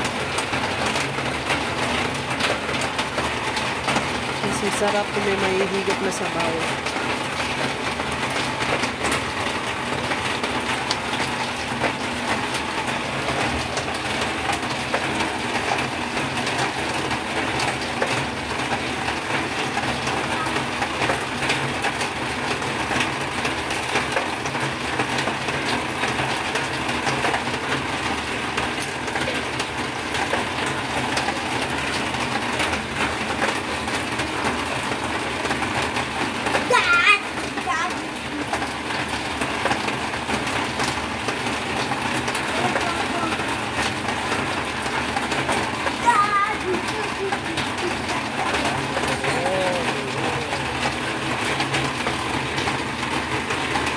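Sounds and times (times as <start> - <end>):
oil sizzling and crackling: 0.0 - 53.9.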